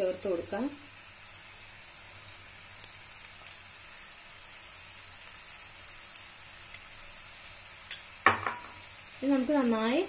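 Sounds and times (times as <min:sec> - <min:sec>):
shallots frying in oil: 0:00.0 - 0:10.0.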